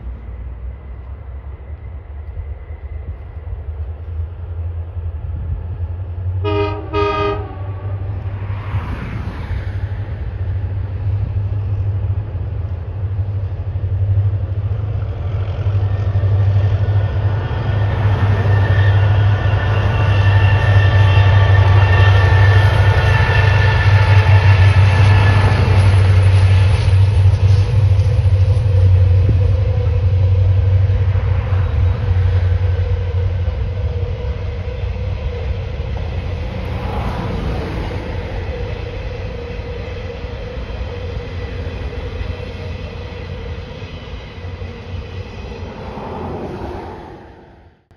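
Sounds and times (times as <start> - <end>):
diesel locomotive engine drone: 0.0 - 47.9
train wagons rumbling on rails: 0.0 - 47.9.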